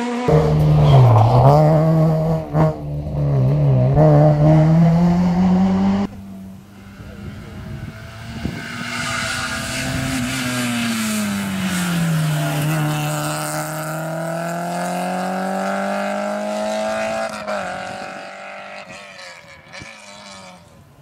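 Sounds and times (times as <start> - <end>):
rally car engine passing by: 0.0 - 20.9.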